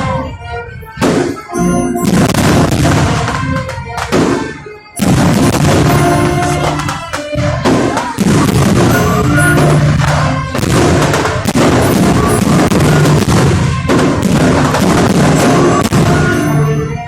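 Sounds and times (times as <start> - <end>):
fireworks bangs: 0.0 - 17.0
music playing: 0.0 - 17.0.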